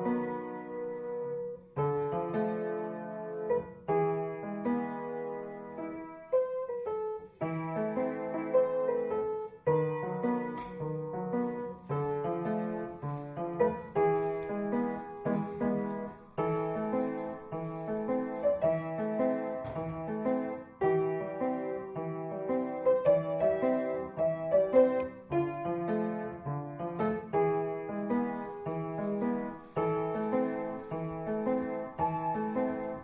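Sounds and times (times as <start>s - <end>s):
slow solo piano chords: 0.0s - 33.0s.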